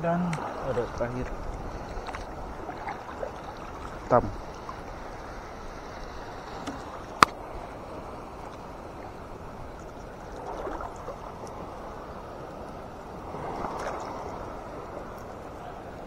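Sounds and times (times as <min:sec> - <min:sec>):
seawater sloshing and splashing: 0:00.0 - 0:15.4.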